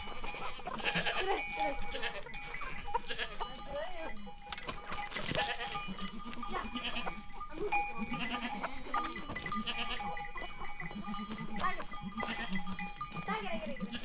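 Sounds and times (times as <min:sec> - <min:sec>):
sheep and goats bleating: 0:00.0 - 0:14.0.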